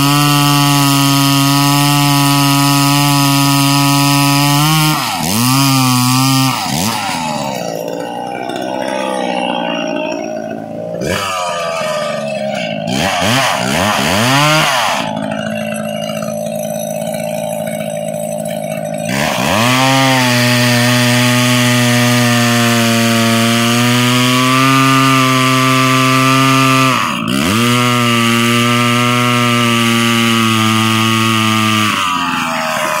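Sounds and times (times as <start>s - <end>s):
chainsaw cutting log: 0.0s - 33.0s.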